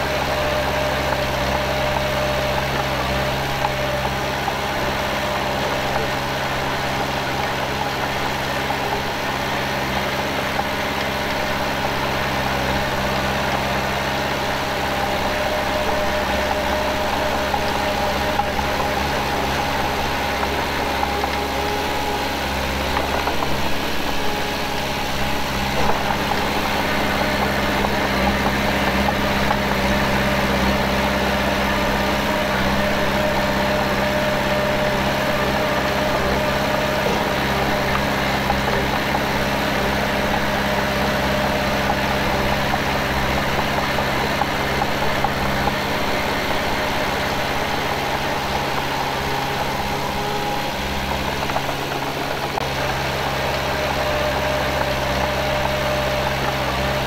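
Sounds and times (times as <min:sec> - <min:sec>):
heavy diesel machinery engine: 0:00.0 - 0:57.0.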